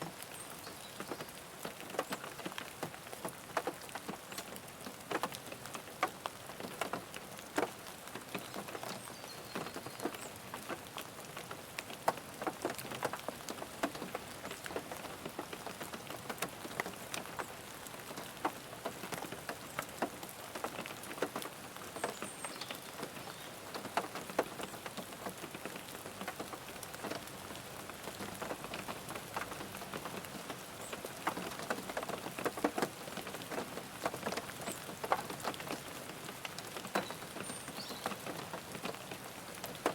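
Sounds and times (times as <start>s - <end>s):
raindrops tapping on car body: 0.8s - 39.9s.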